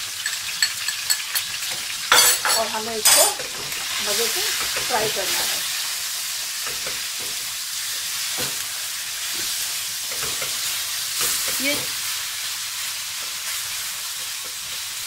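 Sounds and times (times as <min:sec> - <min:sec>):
liver sizzling in hot oil: 0:00.0 - 0:15.0.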